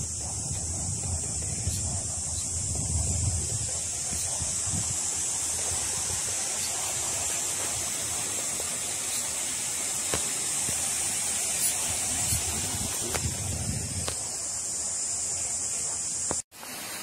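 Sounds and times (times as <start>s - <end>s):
wind rumbling on microphone: 0.0s - 14.6s
high-pitched hiss: 0.0s - 17.0s.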